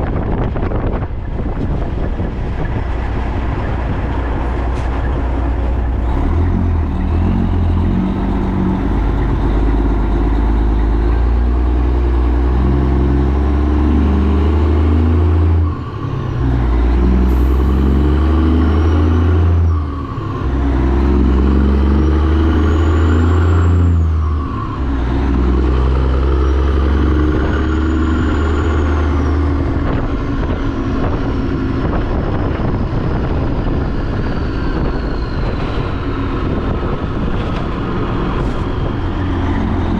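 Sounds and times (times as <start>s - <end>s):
truck diesel engine: 0.0s - 39.9s.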